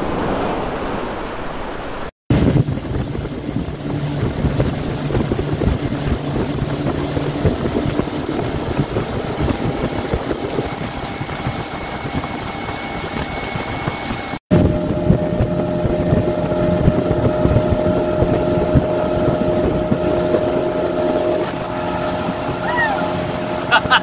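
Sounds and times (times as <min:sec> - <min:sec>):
water rushing past hull: 0:00.0 - 0:12.0, 0:14.5 - 0:24.0
wind buffeting microphone: 0:00.0 - 0:24.0
outboard motor running: 0:02.6 - 0:24.0.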